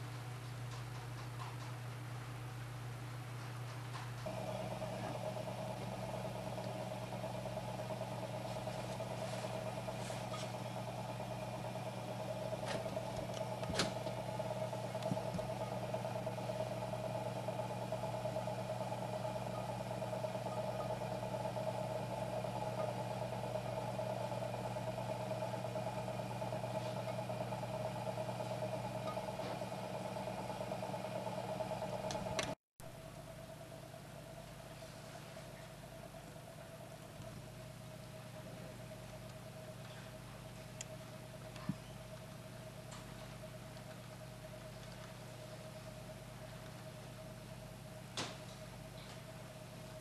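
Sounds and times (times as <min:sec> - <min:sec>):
potter's wheel motor humming: 0:00.0 - 0:50.0.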